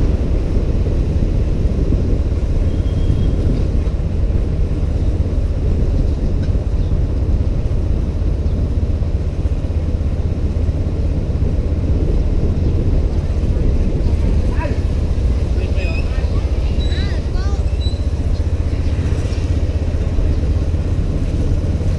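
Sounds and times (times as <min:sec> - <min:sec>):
road noise: 0:00.0 - 0:21.9
wind buffeting microphone: 0:00.0 - 0:21.9.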